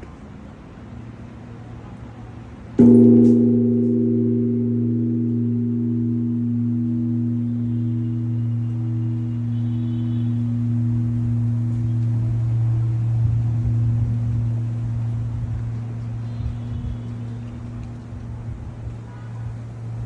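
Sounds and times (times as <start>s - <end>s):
large bell ringing with low hum: 2.8s - 20.0s.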